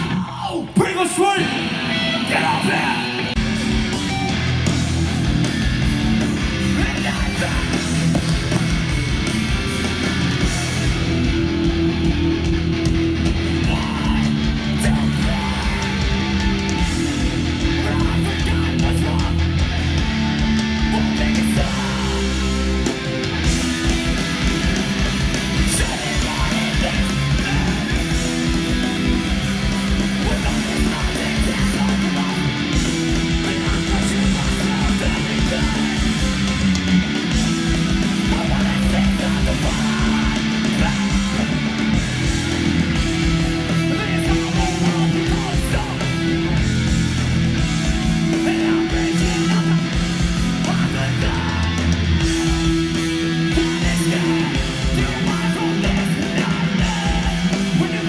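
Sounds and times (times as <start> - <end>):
bass guitar: 0.0 - 58.0
distorted electric guitars: 0.0 - 58.0
drums: 0.0 - 58.0.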